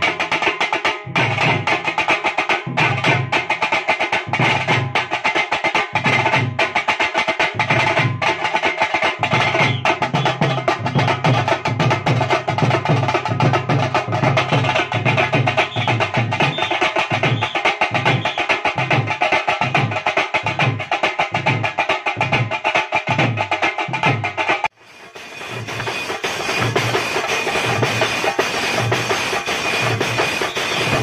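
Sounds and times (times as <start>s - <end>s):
deep drum beats: 0.0s - 5.2s, 5.9s - 31.0s.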